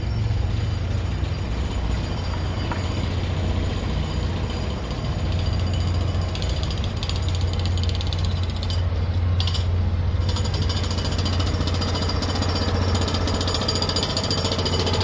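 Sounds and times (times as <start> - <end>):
jackhammer pounding: 0.6 - 8.8, 9.4 - 15.0.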